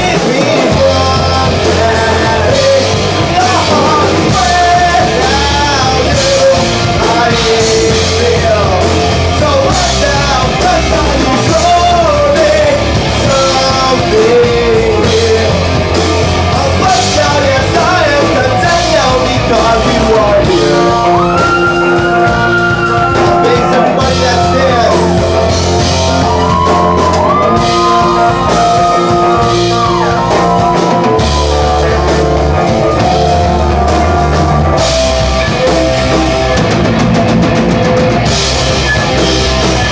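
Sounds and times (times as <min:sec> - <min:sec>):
electric guitar: 0:00.0 - 0:39.9
rock song with male vocal: 0:00.0 - 0:39.9.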